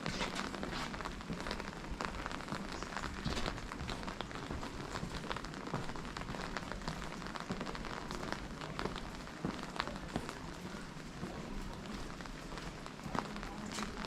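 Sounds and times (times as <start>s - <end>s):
rain hiss: 0.0s - 14.0s
raindrops ticking: 0.0s - 14.0s.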